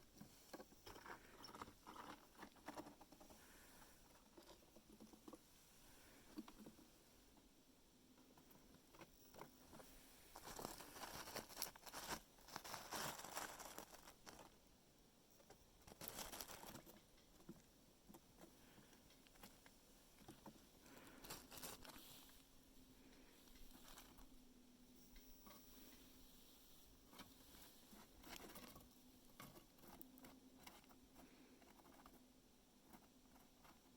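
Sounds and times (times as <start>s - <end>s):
squirrels rustling peanuts: 0.3s - 6.8s, 8.4s - 14.6s, 15.4s - 24.4s, 25.7s - 33.9s.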